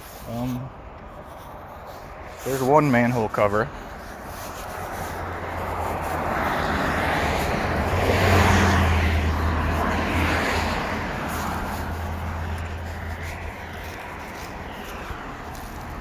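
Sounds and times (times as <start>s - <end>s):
vehicle passing by: 1.4s - 16.0s.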